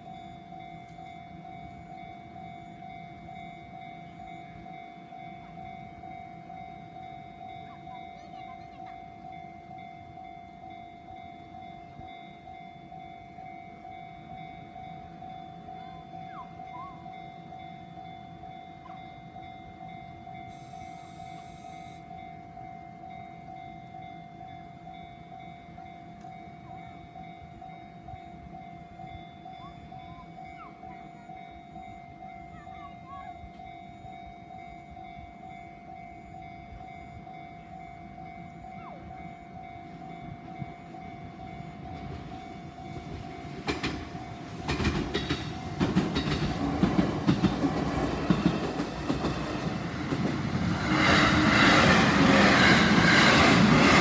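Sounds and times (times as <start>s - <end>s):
level crossing warning bell: 0.0s - 54.0s.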